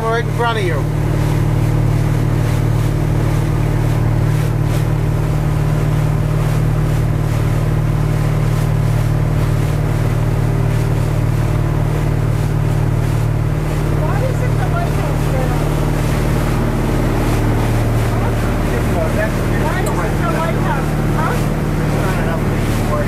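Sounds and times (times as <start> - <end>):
boat engine drone: 0.0 - 23.0
water rushing along hull: 0.0 - 23.0.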